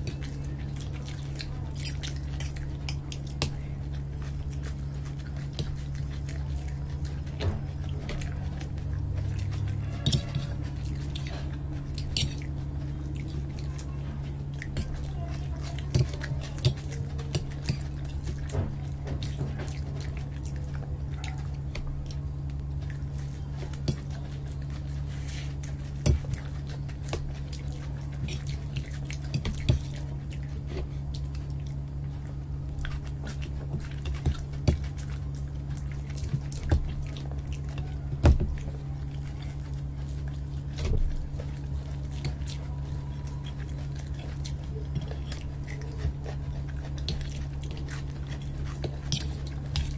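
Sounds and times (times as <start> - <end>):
person chewing noodles: 0.0 - 49.9
steady low hum: 0.0 - 49.9.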